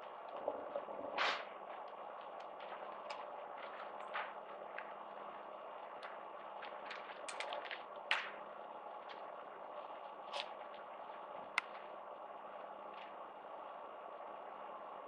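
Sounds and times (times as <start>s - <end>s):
hall room noise: 0.0s - 15.0s.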